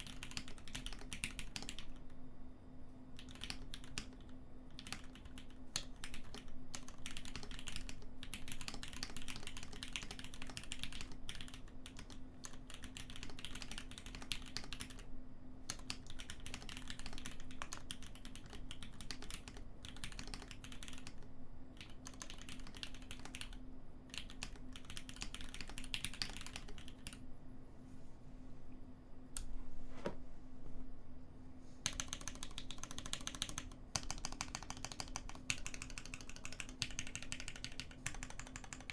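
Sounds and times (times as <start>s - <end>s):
typing on mechanical keyboard: 0.0s - 2.1s, 3.2s - 15.0s, 15.7s - 21.2s, 21.8s - 27.2s, 31.8s - 38.9s.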